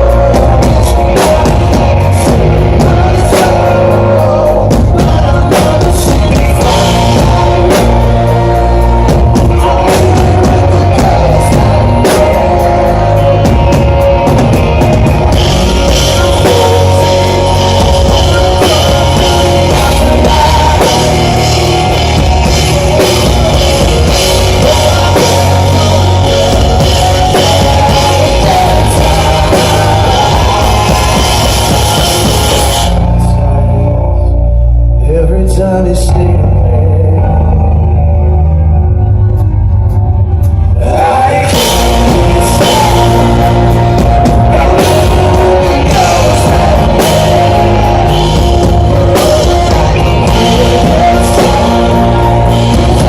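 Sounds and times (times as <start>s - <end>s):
drum kit: 0.0s - 34.0s, 39.2s - 53.0s
bass guitar: 0.0s - 53.0s
electric guitar: 0.0s - 53.0s.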